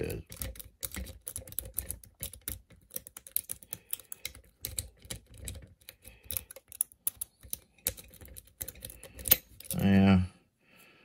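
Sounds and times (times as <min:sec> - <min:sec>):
lock pick clicking and scraping: 0:00.0 - 0:09.8.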